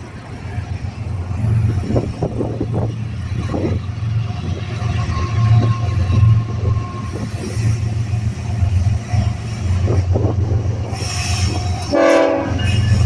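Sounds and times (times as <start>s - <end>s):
train rumbling by: 0.0s - 13.0s.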